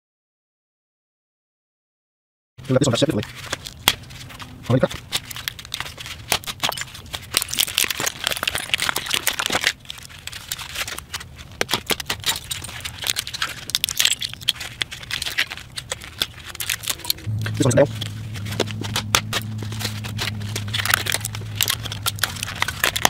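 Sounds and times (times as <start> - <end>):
plastic casing snapping and crackling: 3.4 - 23.0.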